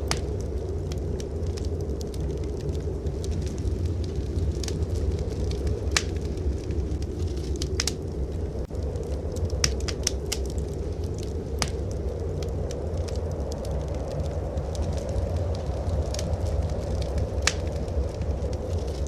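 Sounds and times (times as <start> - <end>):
steady low rumble: 0.0 - 19.0
wood fire crackling: 0.0 - 19.0.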